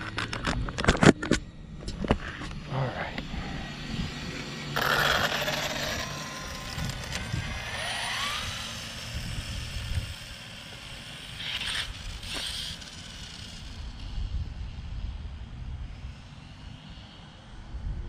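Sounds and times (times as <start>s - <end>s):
motor and fan whine: 0.0s - 18.0s.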